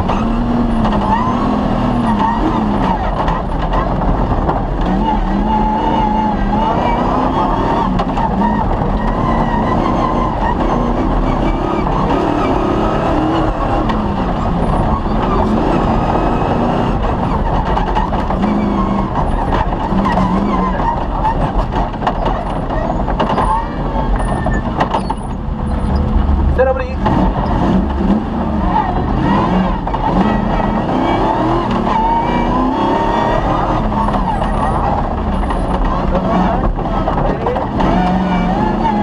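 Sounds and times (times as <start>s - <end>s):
knocks and rattles: 0.0s - 39.0s
rally car engine revving: 0.0s - 39.0s
terrain rumble: 0.0s - 39.0s.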